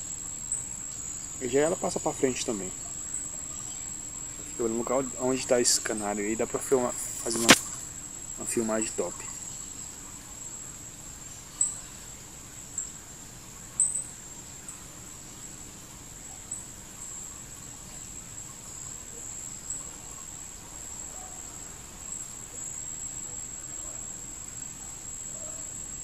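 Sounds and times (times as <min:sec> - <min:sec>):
insect trill: 0:00.0 - 0:26.0.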